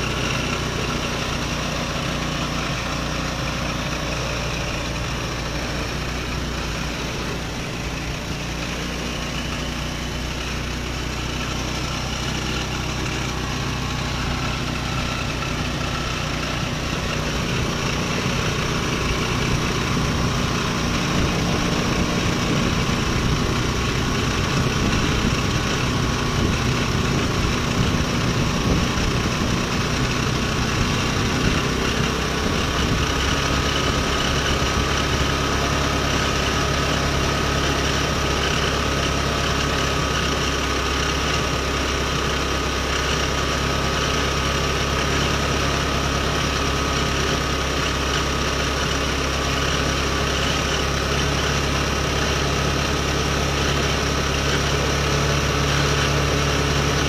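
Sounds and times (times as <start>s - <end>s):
scooter engine idling: 0.0s - 57.0s.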